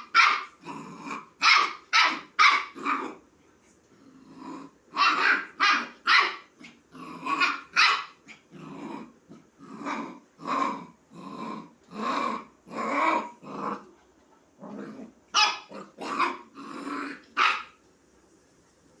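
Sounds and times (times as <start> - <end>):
puppy growling barks: 0.0 - 3.2, 4.2 - 14.0, 14.6 - 17.8.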